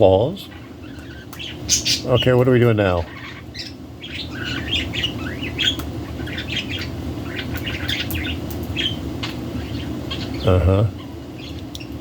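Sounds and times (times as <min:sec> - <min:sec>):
budgerigars chirping and chattering: 0:00.0 - 0:12.0
steady low hum: 0:00.0 - 0:12.0.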